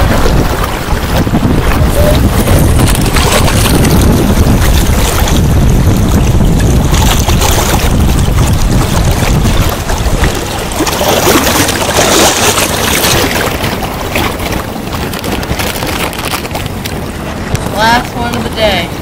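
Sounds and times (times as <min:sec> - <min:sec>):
shallow river rushing: 0:00.0 - 0:19.0
wind buffeting microphone: 0:00.0 - 0:19.0.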